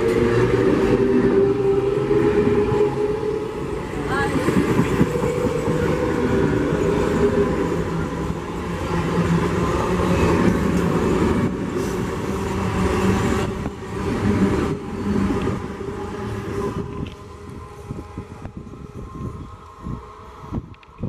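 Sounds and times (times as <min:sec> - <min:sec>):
train rumbling past: 0:00.0 - 0:21.0.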